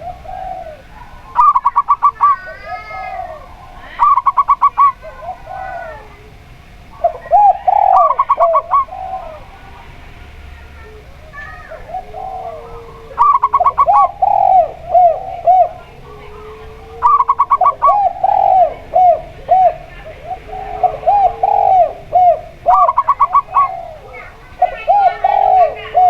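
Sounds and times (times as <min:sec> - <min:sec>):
lower longer dove coos: 0:00.0 - 0:09.8, 0:10.8 - 0:26.0
dove stutter and coos: 0:00.0 - 0:26.0.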